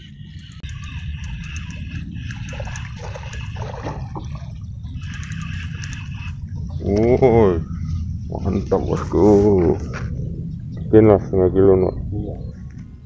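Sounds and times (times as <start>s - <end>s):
low rumble on microphone: 0.0s - 13.0s.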